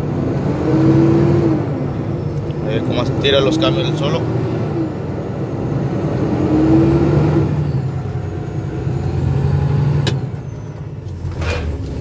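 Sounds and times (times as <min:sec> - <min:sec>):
truck diesel engine pulling: 0:00.0 - 0:12.0.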